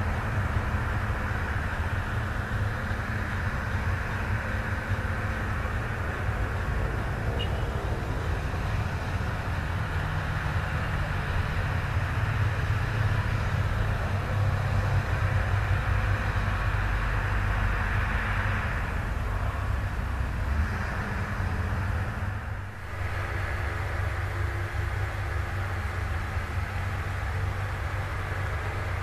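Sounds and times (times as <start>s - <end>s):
excavator diesel engine rumbling: 0.0s - 29.0s.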